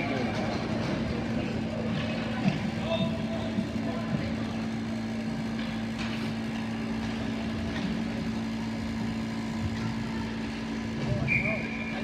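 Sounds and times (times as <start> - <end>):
droning hum: 0.0 - 12.0
ice hockey arena din: 0.0 - 12.0.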